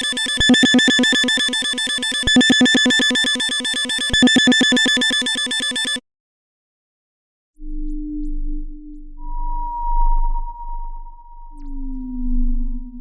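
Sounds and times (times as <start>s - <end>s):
electronic radar pulsing: 0.0s - 6.0s, 7.6s - 13.0s.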